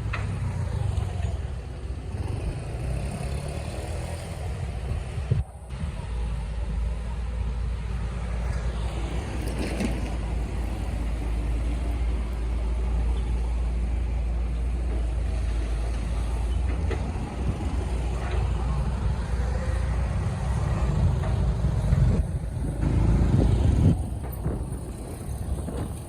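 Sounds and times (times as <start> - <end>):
heavy machine engine rumbling: 4.4 - 26.0.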